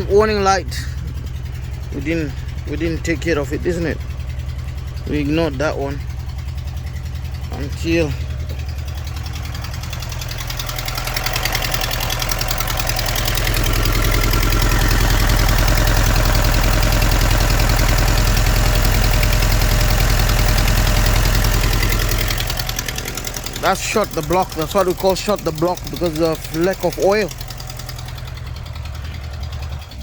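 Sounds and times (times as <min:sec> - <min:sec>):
car engine knocking: 0:00.0 - 0:30.0.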